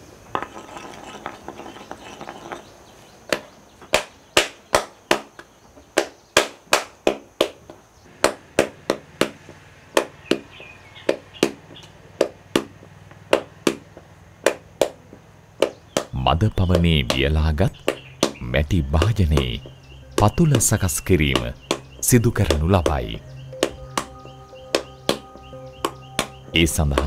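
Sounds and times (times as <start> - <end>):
wooden paddle knocking clay pot: 3.3 - 27.0.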